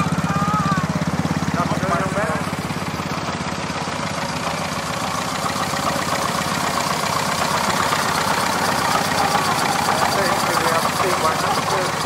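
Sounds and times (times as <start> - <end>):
miniature steam engine beating: 0.0 - 12.0.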